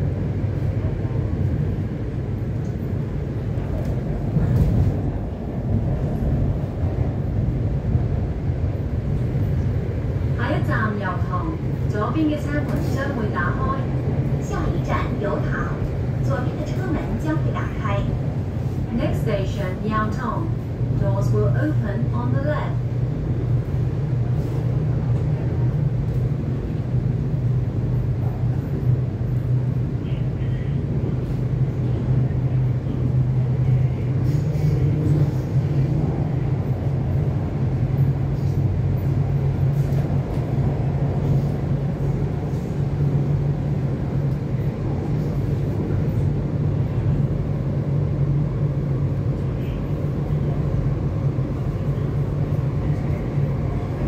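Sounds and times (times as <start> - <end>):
train hum and rumble: 0.0 - 54.0.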